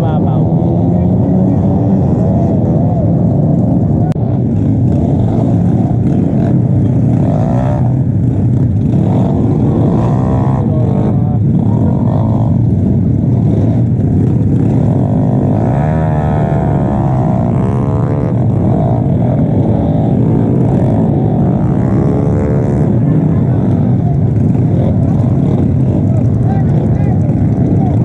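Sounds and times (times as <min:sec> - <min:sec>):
motorcycle engine revving: 0:00.0 - 0:28.0
wind and road noise: 0:00.0 - 0:28.0.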